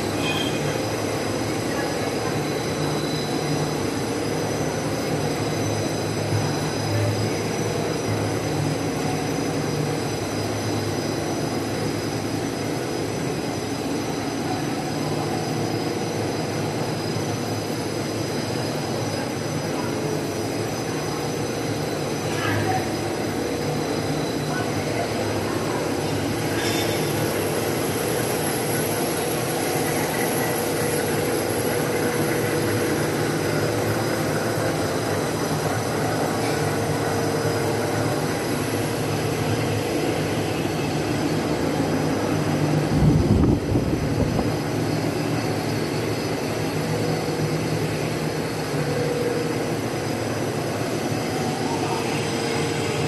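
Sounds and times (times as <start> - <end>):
high motor whines: 0.0 - 53.0
machine mechanical drone: 0.0 - 53.0.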